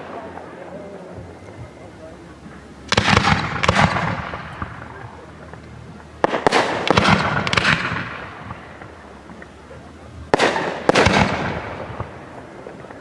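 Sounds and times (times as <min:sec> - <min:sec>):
firework crackling: 0:00.0 - 0:13.0
firework shells bursting: 0:00.0 - 0:13.0.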